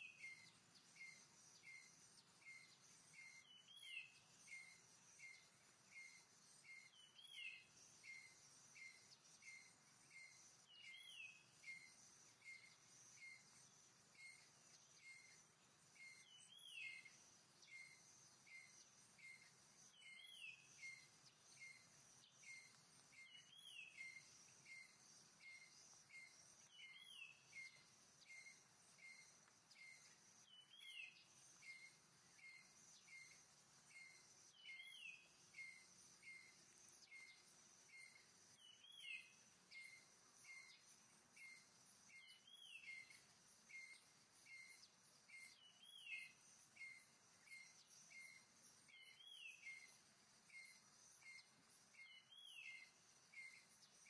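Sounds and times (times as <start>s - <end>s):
high insect hum: 0.0s - 54.0s
soft bird chirps: 0.0s - 54.0s.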